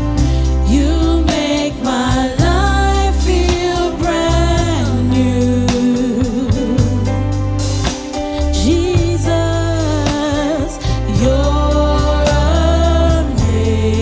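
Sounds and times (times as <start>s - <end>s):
bass and keyboard accompaniment: 0.0s - 14.0s
person singing gospel song: 0.0s - 14.0s.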